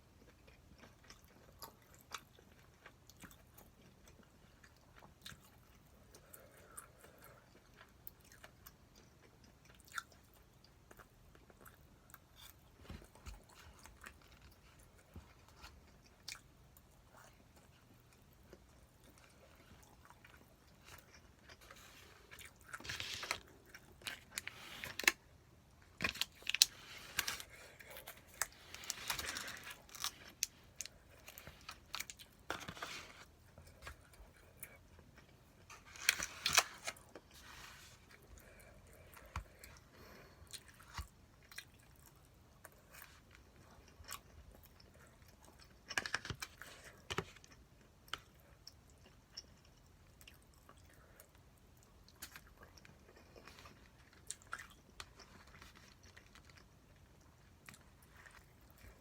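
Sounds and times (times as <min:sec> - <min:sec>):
person chewing food with crunch: 0:00.0 - 0:59.0.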